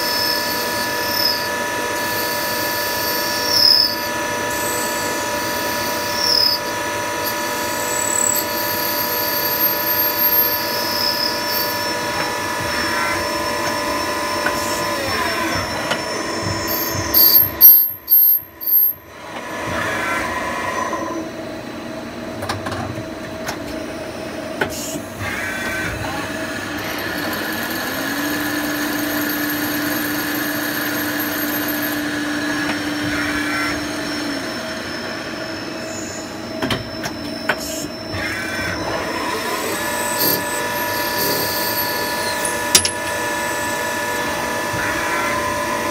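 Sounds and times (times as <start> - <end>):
lathe machine whine: 0.0 - 45.9.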